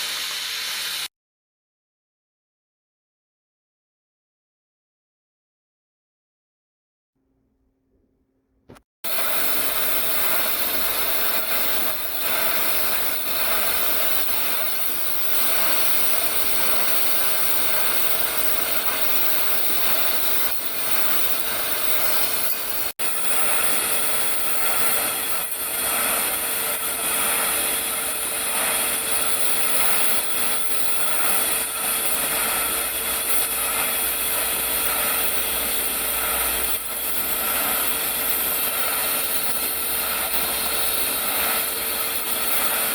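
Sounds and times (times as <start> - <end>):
welding rig hissing and humming: 0.0 - 1.1, 9.1 - 42.9.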